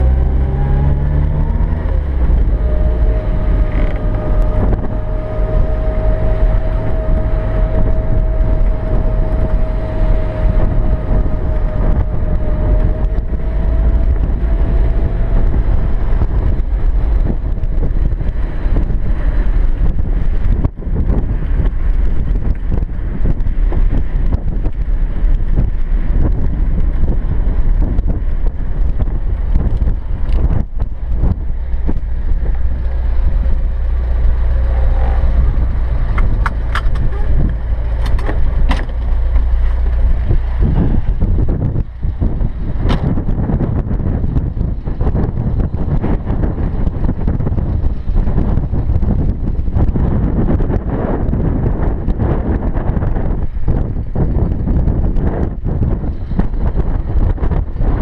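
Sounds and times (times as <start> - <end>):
car engine running: 0.0 - 58.0
steady engine whine: 0.0 - 58.0
wind and road noise: 0.0 - 58.0.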